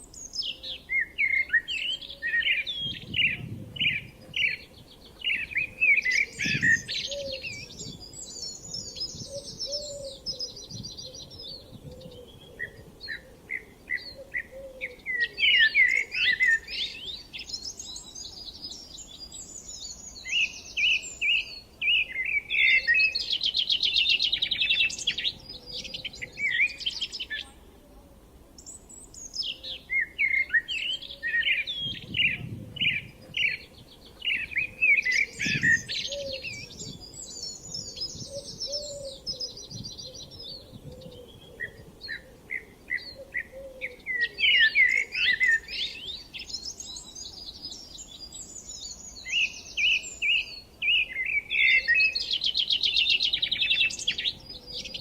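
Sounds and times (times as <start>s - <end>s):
songbirds chirping and whistling: 0.0s - 27.6s, 28.6s - 55.0s.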